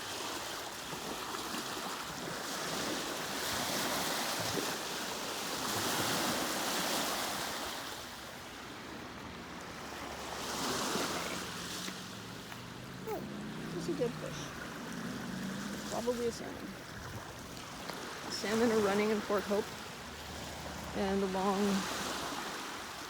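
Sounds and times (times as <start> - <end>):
small waves washing on beach: 0.0 - 23.0.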